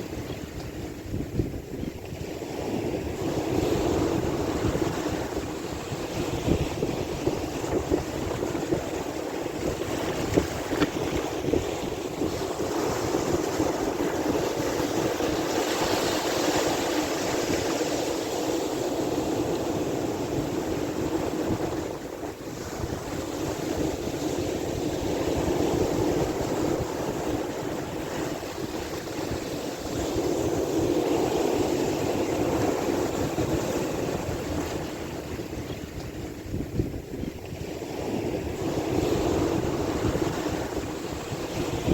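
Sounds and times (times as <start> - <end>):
sea waves washing: 0.0 - 41.9
wind buffeting microphone: 0.0 - 41.9.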